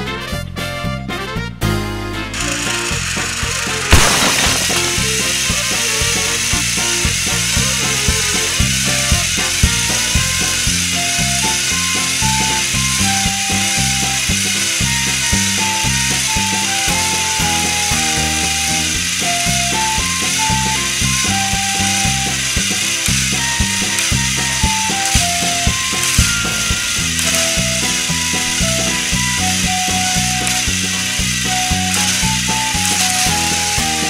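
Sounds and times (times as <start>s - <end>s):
background music with steady beat: 0.0s - 34.0s
toy motors grinding and clicking: 2.2s - 34.0s.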